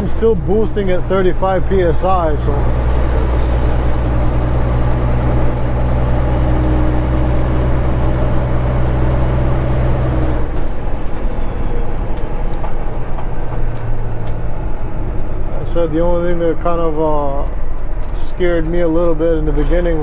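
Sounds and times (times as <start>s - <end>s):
truck diesel engine droning: 0.0s - 20.0s.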